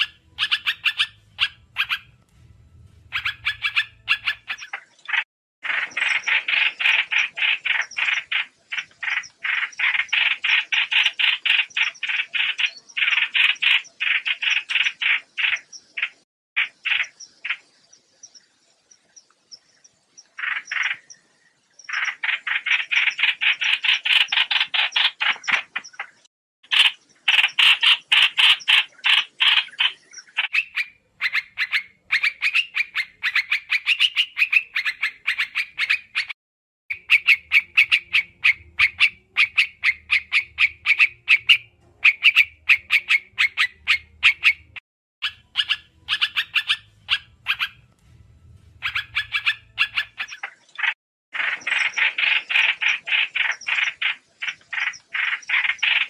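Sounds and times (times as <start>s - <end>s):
white-eyes chirping calls: 0.0s - 2.2s, 3.0s - 47.9s, 48.8s - 56.0s.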